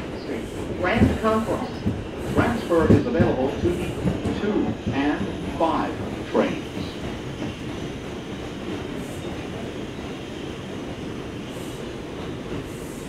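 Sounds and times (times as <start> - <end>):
subway train rumbling on track: 0.0 - 13.0.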